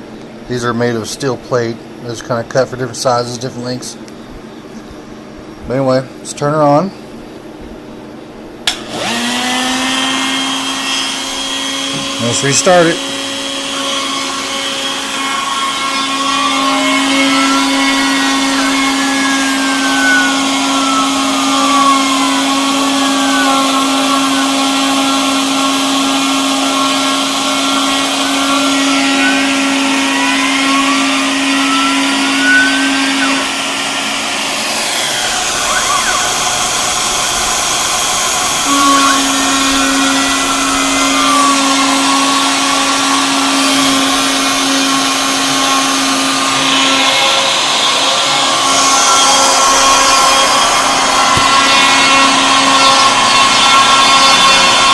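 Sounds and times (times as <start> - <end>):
steady low hum: 0.0 - 54.9
stepper motors whining: 7.9 - 54.9
router spindle whining: 8.6 - 54.9.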